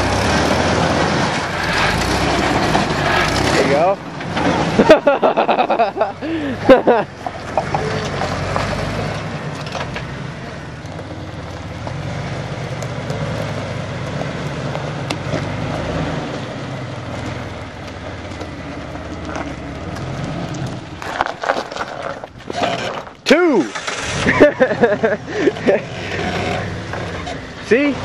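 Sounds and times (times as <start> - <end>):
car engine running at low revs: 0.0 - 23.2.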